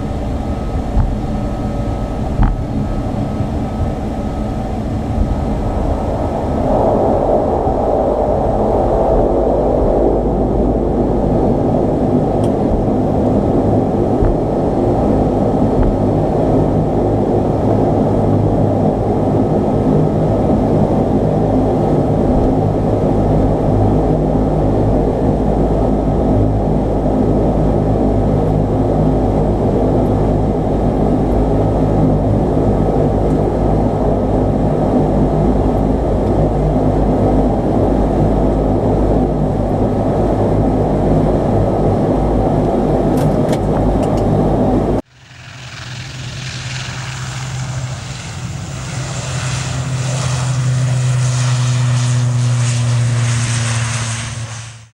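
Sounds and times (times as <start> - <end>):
low propeller hum: 0.0 - 54.9
turboprop engines droning: 0.0 - 54.9.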